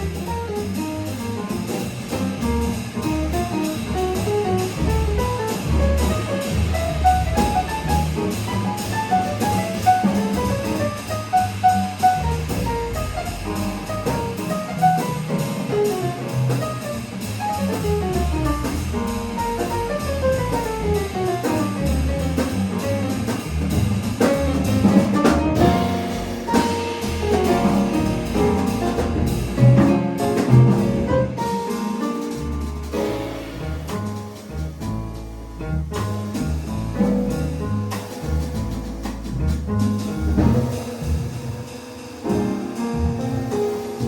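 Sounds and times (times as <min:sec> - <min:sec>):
acoustic piano: 0:00.0 - 0:44.0
double bass: 0:00.0 - 0:44.0
drum kit: 0:00.0 - 0:44.0.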